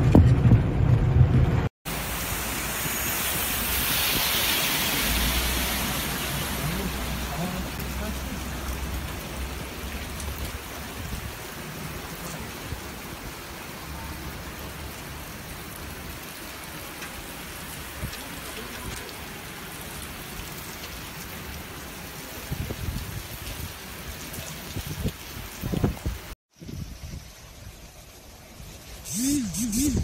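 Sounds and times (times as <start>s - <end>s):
heavy rain on floodwater: 1.4s - 26.4s.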